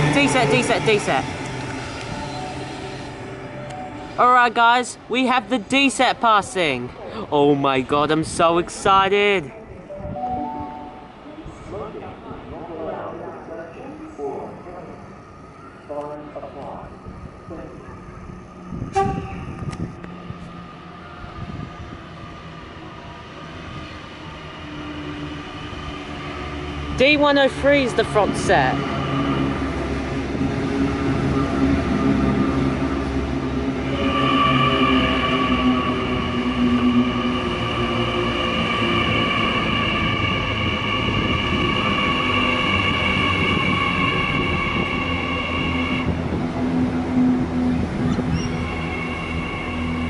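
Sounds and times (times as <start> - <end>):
train approaching on track: 0.0 - 50.0.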